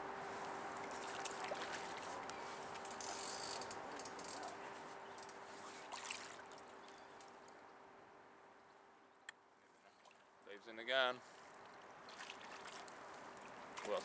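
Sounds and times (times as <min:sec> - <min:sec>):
faint steady hum: 0:00.0 - 0:13.8.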